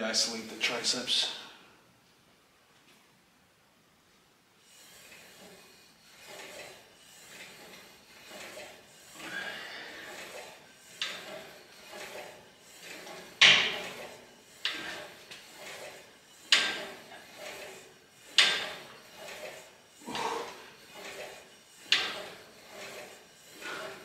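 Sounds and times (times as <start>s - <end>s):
cable rasping over pulleys: 4.6s - 24.0s
weight clanking: 4.7s - 24.0s.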